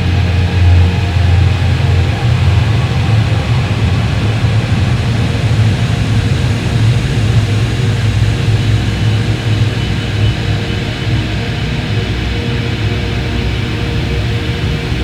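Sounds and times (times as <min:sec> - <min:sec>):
distorted ambient drone music: 0:00.0 - 0:15.0.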